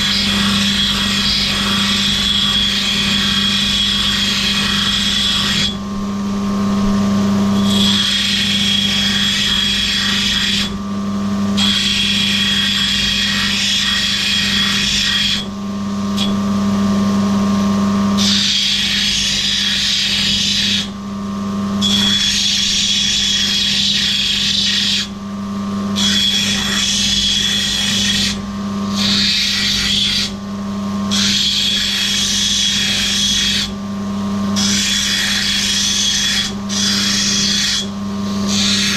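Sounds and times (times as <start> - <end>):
stone grinding hiss with whine: 0.0 - 10.8, 11.4 - 15.5, 17.8 - 21.0, 21.6 - 30.4, 31.0 - 38.9
grinding machine motor humming: 0.0 - 38.9.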